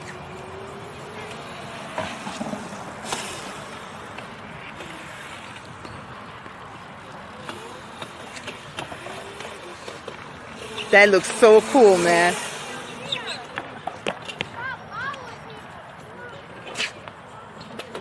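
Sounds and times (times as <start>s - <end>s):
dirt bike motor and tyres: 0.0s - 14.8s.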